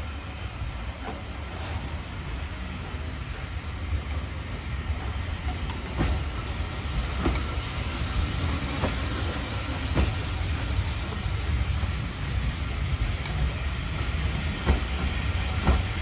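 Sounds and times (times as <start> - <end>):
steam train rumble: 0.0 - 16.0.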